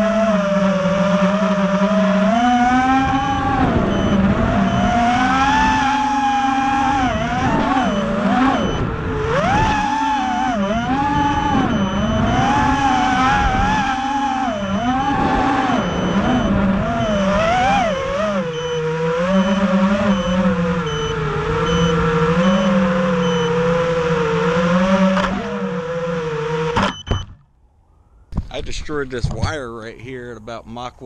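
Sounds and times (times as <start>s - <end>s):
quadcopter motors whining: 0.0s - 27.4s.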